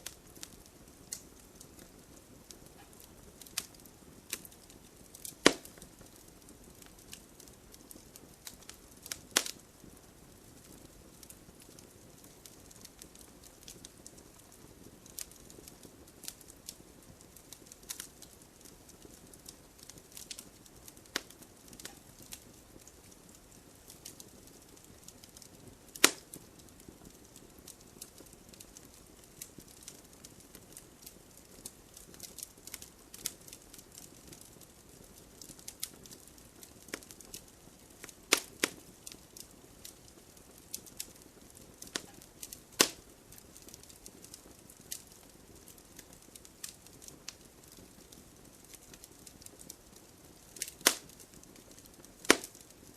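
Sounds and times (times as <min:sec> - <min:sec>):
loud fire pops: 0:00.0 - 0:52.8
wood fire crackling: 0:00.0 - 0:52.9.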